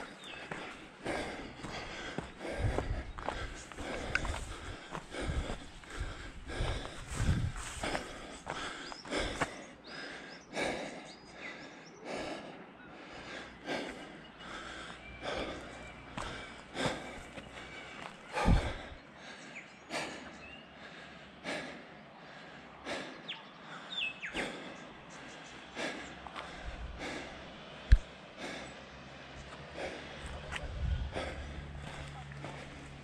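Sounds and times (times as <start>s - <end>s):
person breathing heavily: 0.0s - 33.0s.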